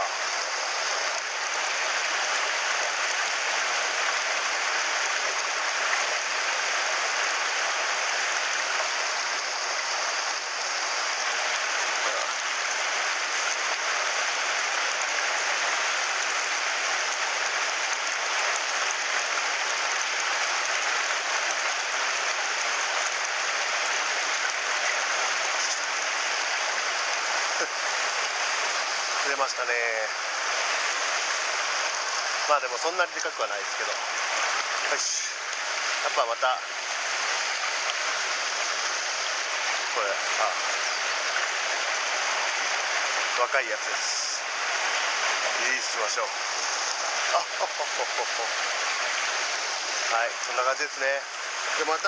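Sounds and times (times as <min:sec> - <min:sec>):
stream rushing through rapids: 0:00.0 - 0:52.0.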